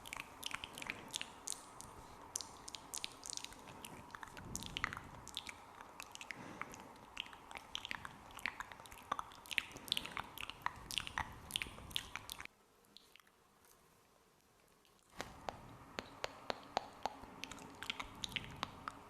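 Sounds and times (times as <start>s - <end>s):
wet mouth clicks and smacks: 0.0s - 13.8s, 14.4s - 19.0s.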